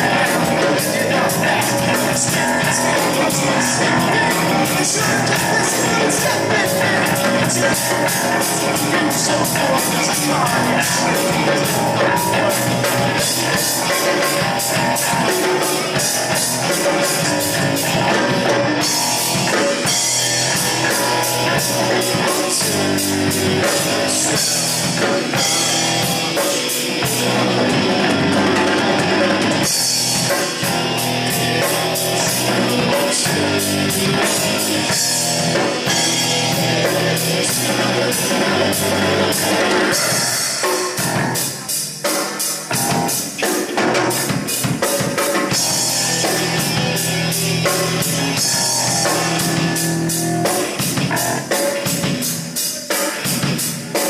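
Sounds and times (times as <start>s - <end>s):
drum kit with cymbals: 0.0s - 54.0s
electric guitar: 0.0s - 54.0s
person singing: 0.0s - 54.0s.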